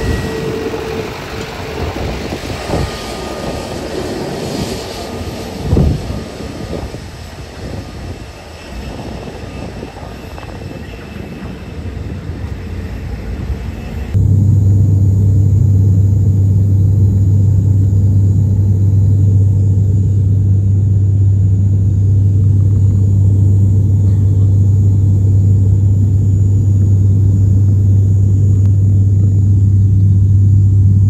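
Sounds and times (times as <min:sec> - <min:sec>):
jet airliner rumble: 0:00.0 - 0:31.0
turboprop cabin drone: 0:00.0 - 0:31.0.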